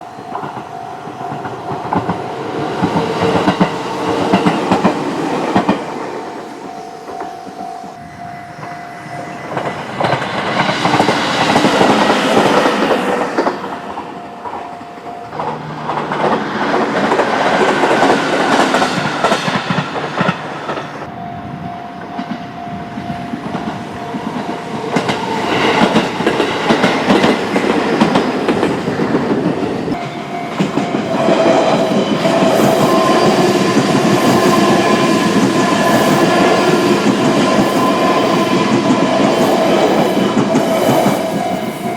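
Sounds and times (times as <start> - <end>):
train wheels clacking over rail joints: 0.1 - 8.0, 9.4 - 21.1, 23.3 - 41.9.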